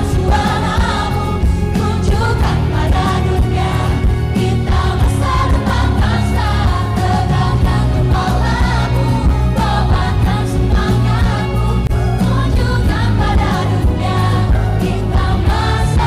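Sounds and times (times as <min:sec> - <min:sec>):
pop song with sung vocals: 0:00.0 - 0:16.0.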